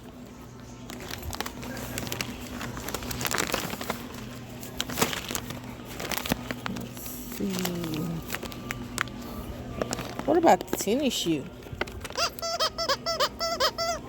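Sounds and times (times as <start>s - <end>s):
steady electrical hum: 0.0s - 14.0s
plastic packaging crinkling: 0.6s - 14.0s.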